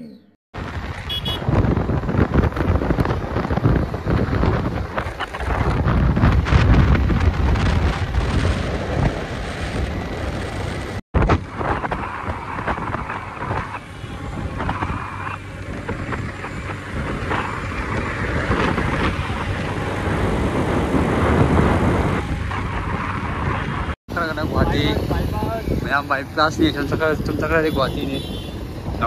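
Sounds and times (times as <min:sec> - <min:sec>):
road and vehicle noise: 0:00.0 - 0:29.0
wind buffeting microphone: 0:00.6 - 0:29.0.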